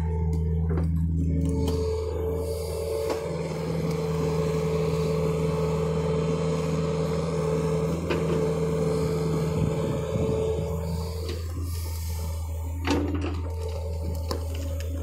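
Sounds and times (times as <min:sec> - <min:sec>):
excavator diesel engine running: 0:00.0 - 0:15.0
steady whine: 0:00.0 - 0:15.0.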